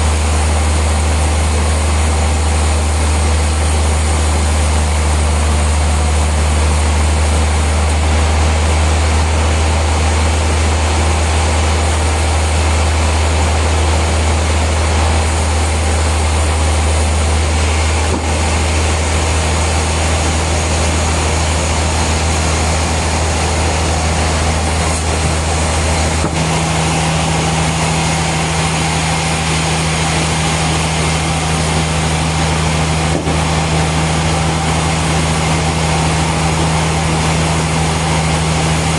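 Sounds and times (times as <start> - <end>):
industrial machinery droning: 0.0 - 38.9.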